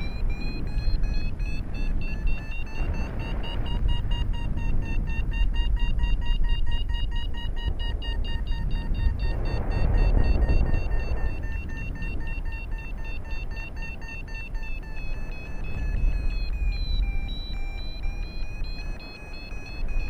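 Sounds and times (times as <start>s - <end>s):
variometer beeping rapidly: 0.0s - 20.0s
wind rumble on microphone: 0.0s - 20.0s.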